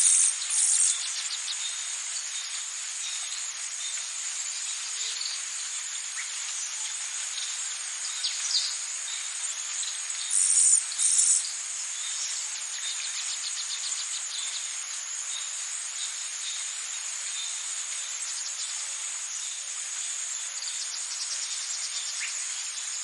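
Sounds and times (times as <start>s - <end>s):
insect chorus shrilling: 0.0s - 23.0s
ticking insect calls: 0.0s - 23.0s.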